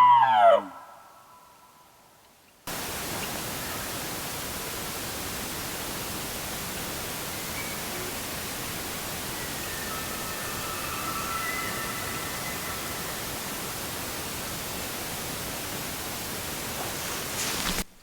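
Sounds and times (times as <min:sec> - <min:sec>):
steady hiss: 0:02.3 - 0:18.0.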